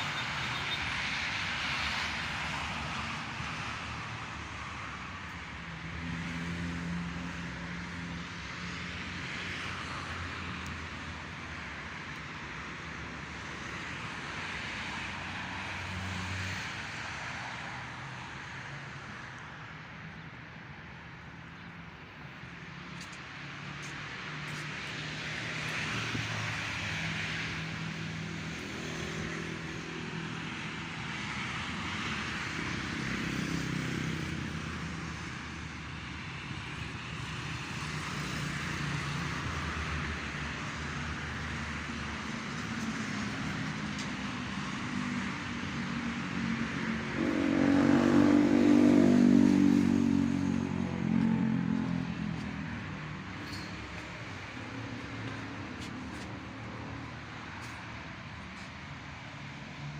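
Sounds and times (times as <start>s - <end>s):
vehicles driving by: 0.0s - 59.9s.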